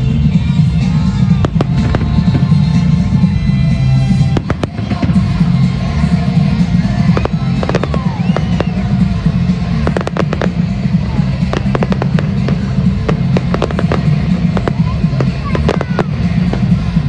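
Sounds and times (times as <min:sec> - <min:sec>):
fireworks bangs and crackles: 0:00.0 - 0:17.0
steady low rumble: 0:00.0 - 0:17.0.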